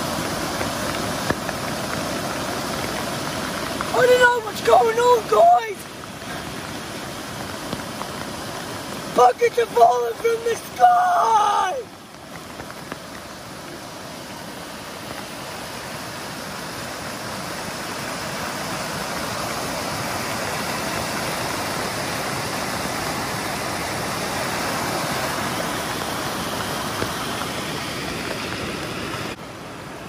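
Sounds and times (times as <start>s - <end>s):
floodwater rushing in rapids: 0.0s - 30.0s.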